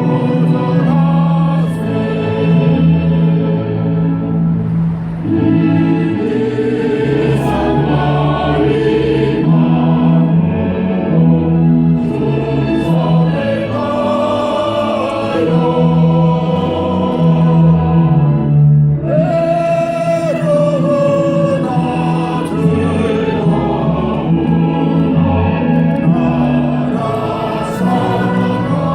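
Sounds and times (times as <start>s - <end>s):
choir singing: 0.0s - 28.9s.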